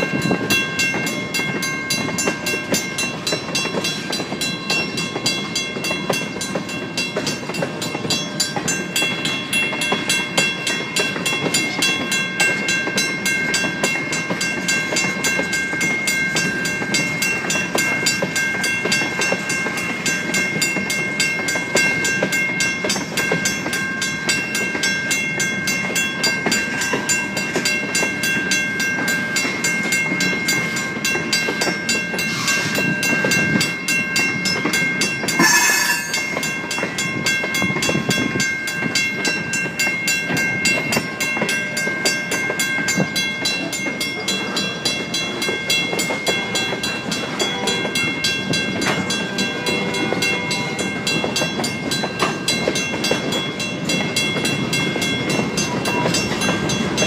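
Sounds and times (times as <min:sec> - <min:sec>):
crossing bell ringing: 0:00.0 - 0:57.0
wheels clattering on rail joints: 0:00.0 - 0:57.0.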